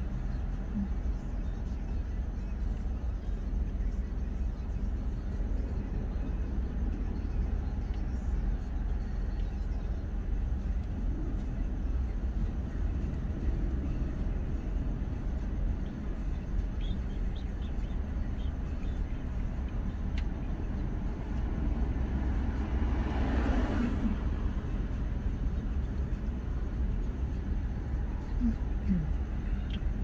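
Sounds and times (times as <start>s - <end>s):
traffic rumble inside car: 0.0s - 30.0s.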